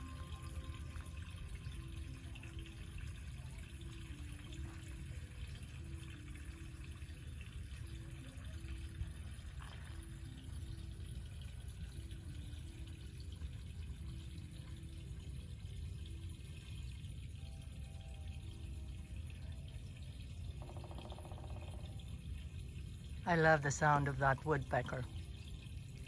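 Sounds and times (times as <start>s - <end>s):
low steady rumble: 0.0s - 26.0s
soft slow background music: 0.0s - 26.0s.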